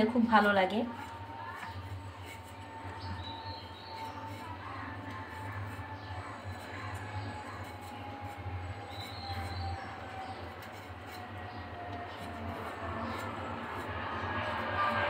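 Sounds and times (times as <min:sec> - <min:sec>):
knife scraping potato skin: 0:00.0 - 0:15.0
low mechanical hum: 0:00.0 - 0:15.0.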